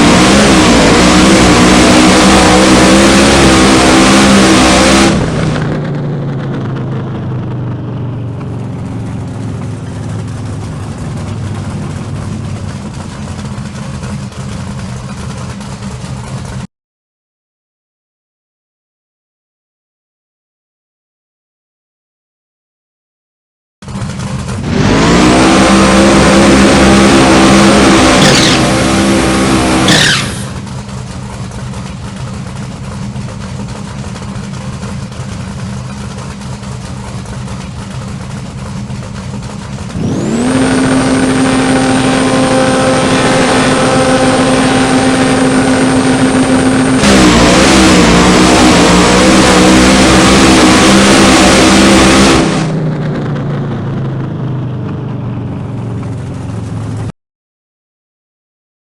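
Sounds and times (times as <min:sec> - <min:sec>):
car engine running: 0:00.0 - 0:16.7, 0:23.8 - 0:57.1.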